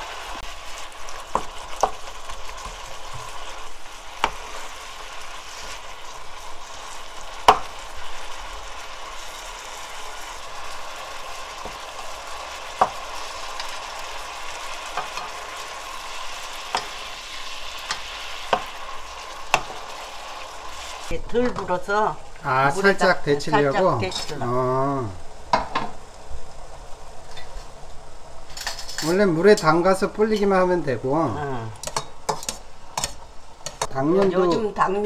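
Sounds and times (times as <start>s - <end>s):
meat sizzling in a wok: 0.0s - 35.0s.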